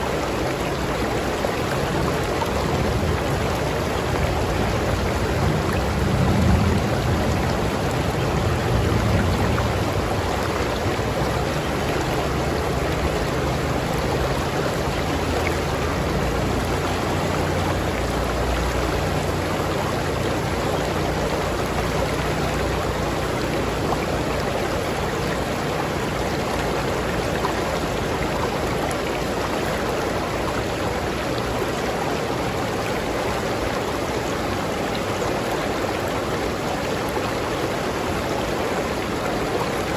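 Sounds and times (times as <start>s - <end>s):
river stream rushing: 0.0s - 39.9s.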